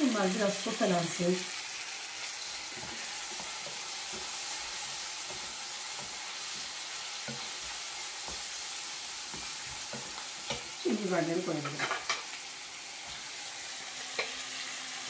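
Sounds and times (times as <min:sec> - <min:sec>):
chicken and onion sizzling in oil: 0:00.0 - 0:15.0.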